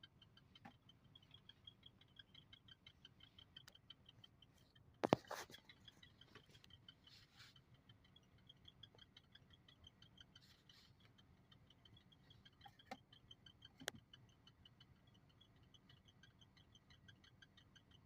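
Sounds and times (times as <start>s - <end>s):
faint high-pitched ticking: 0.0s - 18.0s.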